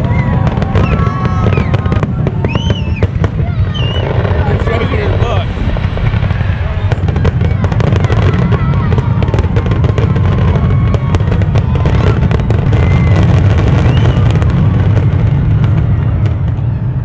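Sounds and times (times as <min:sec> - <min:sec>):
fireworks booming: 0:00.0 - 0:17.0
fireworks crackling: 0:00.0 - 0:17.0.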